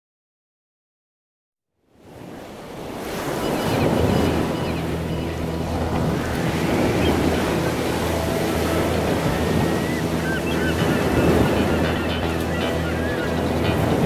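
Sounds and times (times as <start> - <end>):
wind: 1.7 - 14.0
ocean surf breaking: 2.0 - 14.0.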